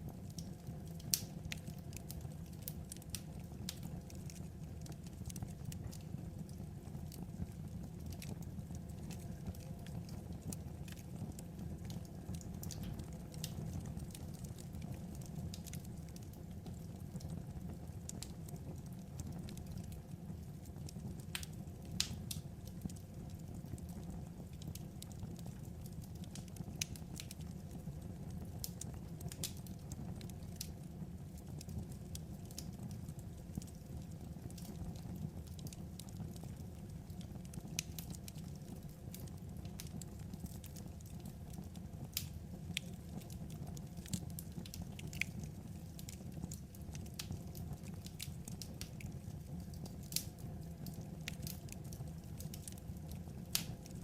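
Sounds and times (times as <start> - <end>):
low rumble of fire: 0.0 - 54.0
wood fire popping: 0.0 - 54.0.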